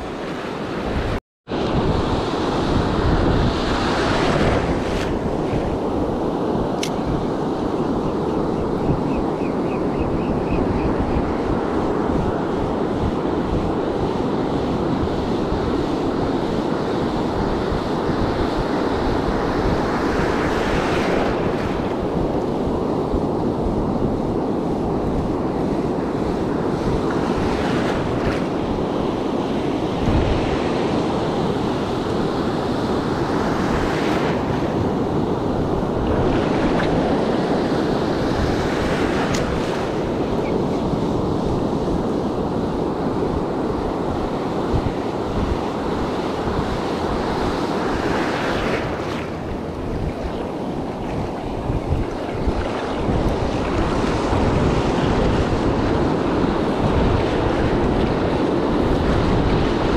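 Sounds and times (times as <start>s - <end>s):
ocean surf breaking: 0.0s - 8.0s, 11.2s - 59.9s
wind buffeting microphone: 0.0s - 59.9s.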